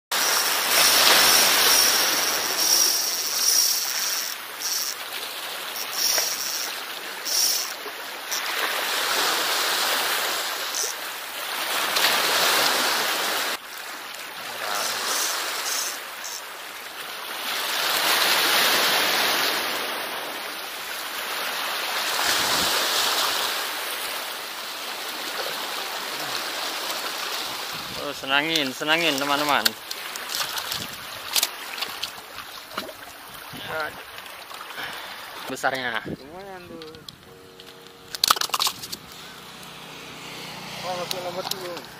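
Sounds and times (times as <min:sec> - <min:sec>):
waves breaking over rocks: 0:00.1 - 0:41.9.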